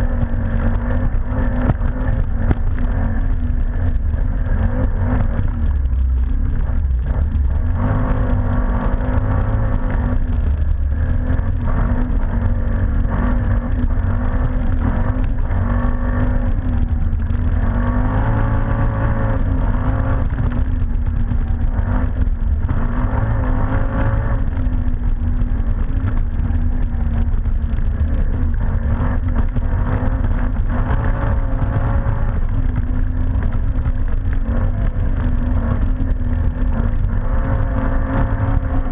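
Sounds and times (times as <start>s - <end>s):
atv engine revving while riding: 0.0s - 38.9s.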